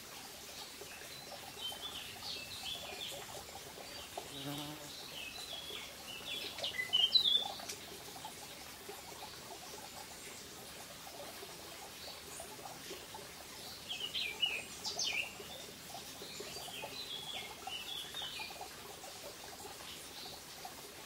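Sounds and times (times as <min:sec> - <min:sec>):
stream babbling over stones: 0:00.0 - 0:21.0.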